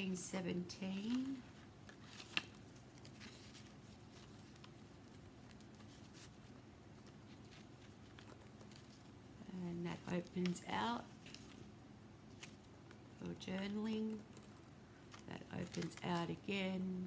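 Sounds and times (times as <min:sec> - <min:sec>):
low room hum: 0:00.0 - 0:17.0
paper pages handled: 0:00.9 - 0:09.2, 0:09.9 - 0:16.8.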